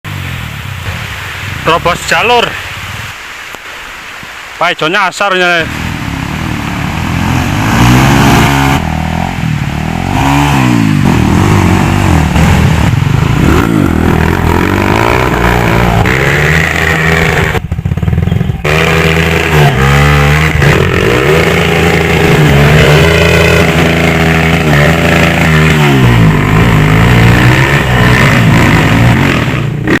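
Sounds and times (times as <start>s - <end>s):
motorcycle engine revving: 5.6s - 30.0s.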